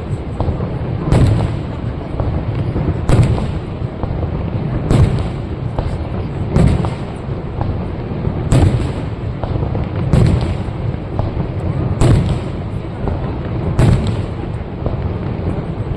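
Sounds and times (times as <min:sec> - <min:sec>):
faint fireworks pops: 0:00.0 - 0:15.9
fireworks bursting with loud bangs: 0:00.0 - 0:15.9.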